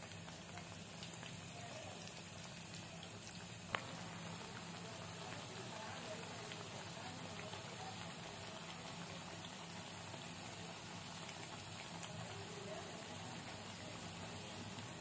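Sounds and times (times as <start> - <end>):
fritters deep-frying in hot oil: 0.0 - 15.0
oil popping: 0.0 - 15.0.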